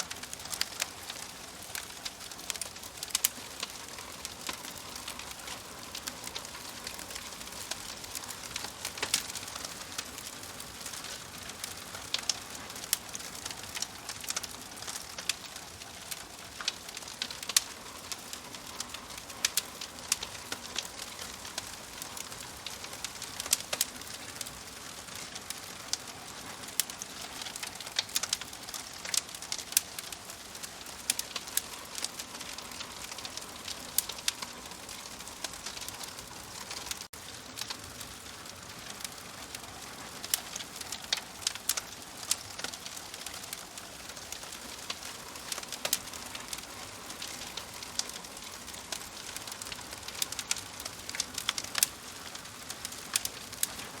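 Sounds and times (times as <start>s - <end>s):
wood fire crackling in a stove: 0.0s - 54.0s.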